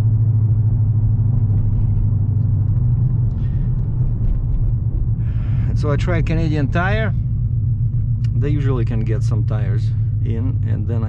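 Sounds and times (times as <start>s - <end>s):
car engine droning: 0.0s - 11.0s
road rumble: 0.0s - 11.0s.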